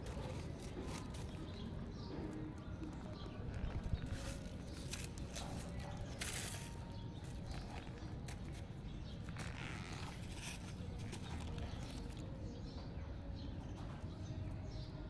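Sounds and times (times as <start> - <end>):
scratches and rustles on concrete: 0.0 - 12.8.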